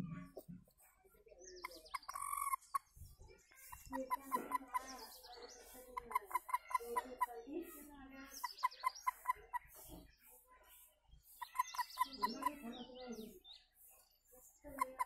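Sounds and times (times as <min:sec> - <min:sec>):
toad chirping: 0:01.4 - 0:12.8, 0:13.6 - 0:15.0.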